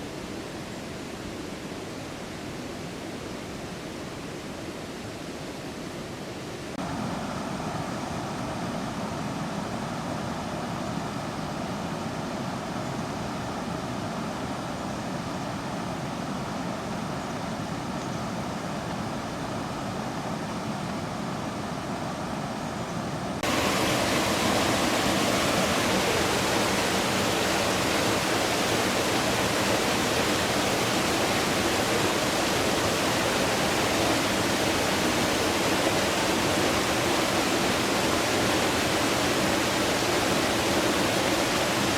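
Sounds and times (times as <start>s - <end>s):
running water rushing: 6.7s - 41.9s.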